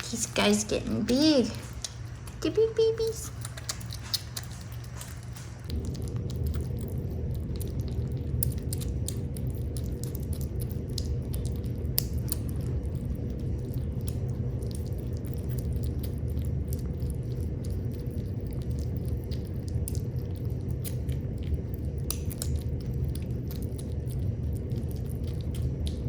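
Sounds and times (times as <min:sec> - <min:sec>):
kittens chewing and smacking: 0:00.0 - 0:26.0
steady low rumble: 0:00.0 - 0:26.0.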